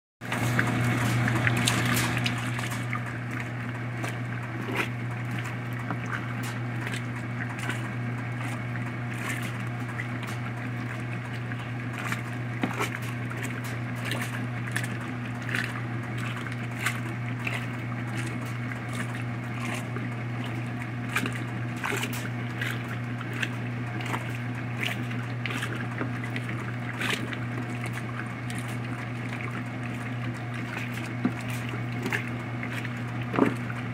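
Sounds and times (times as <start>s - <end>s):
washing machine motor hum: 0.2s - 33.9s
water sloshing: 0.2s - 33.9s.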